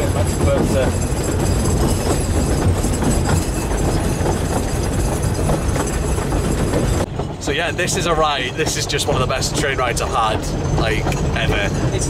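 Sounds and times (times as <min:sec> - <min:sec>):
train carriage wheels rattling on rails: 0:00.0 - 0:12.0.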